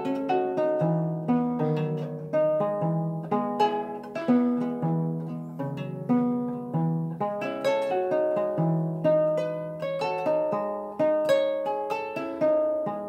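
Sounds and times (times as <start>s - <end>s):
plucked harp-lute notes: 0.0s - 13.0s.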